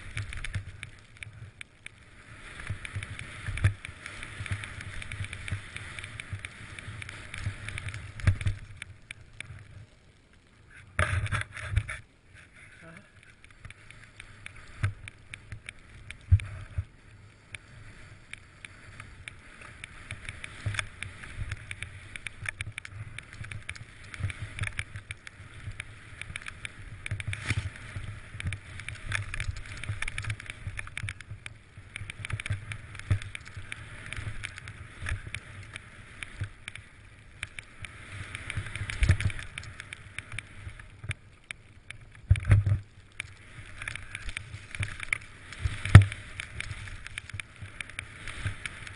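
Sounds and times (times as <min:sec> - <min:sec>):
skis swishing through snow: 0:00.0 - 0:08.7, 0:13.5 - 0:41.0, 0:42.1 - 0:48.9.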